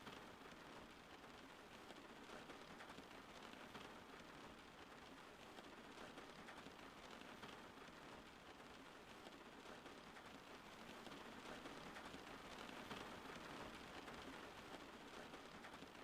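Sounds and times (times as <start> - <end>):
soft rain falling: 0.0 - 16.0.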